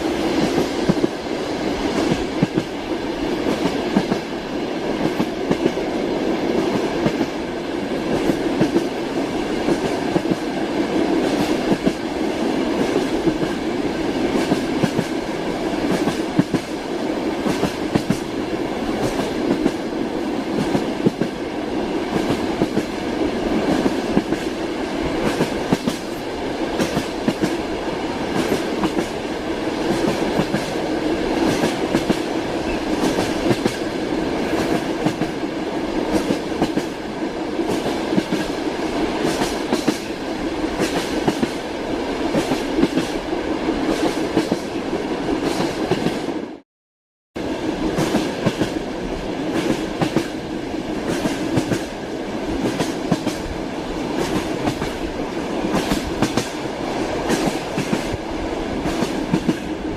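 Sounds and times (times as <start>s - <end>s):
train wheels clacking on rails: 0.0s - 46.4s, 47.8s - 48.8s, 49.4s - 59.9s.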